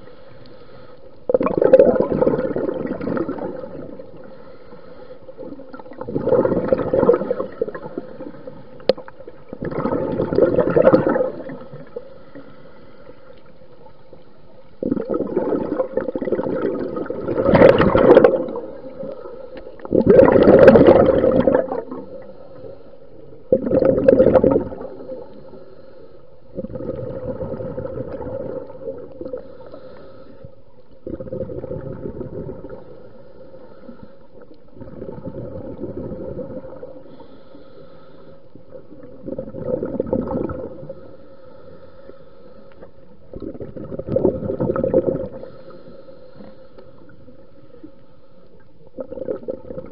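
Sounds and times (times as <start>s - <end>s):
faint steady hum: 0.0s - 49.9s
underwater exhaust bubbles gurgling: 0.0s - 49.9s.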